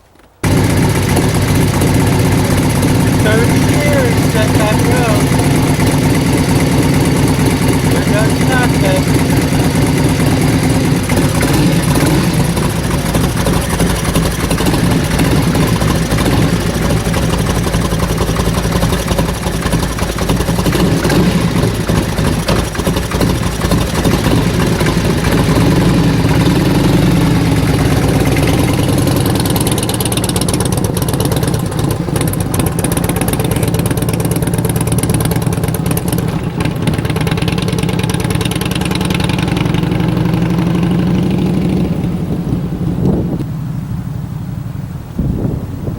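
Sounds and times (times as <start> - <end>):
motorcycle engine running: 0.2 - 45.9.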